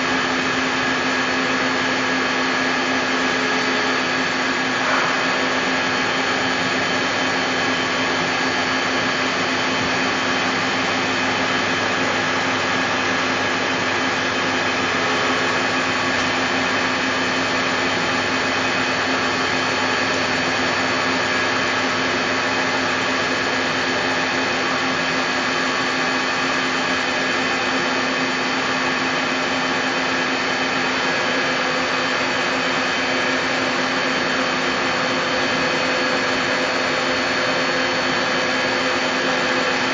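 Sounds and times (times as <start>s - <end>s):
lathe machine hissing: 0.0s - 39.9s.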